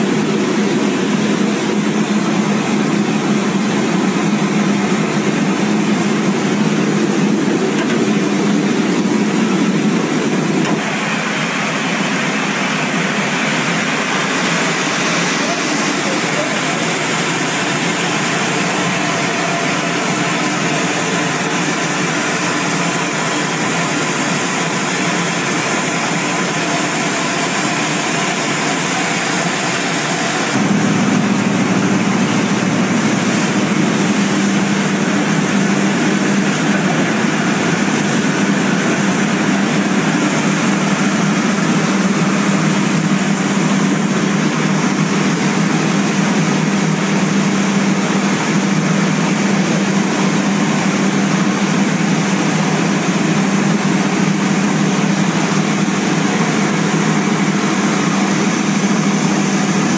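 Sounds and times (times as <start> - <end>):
grain streaming down metal chutes: 0.0 - 59.9
low machine hum: 0.0 - 59.9
rice mill machinery running: 0.0 - 59.9.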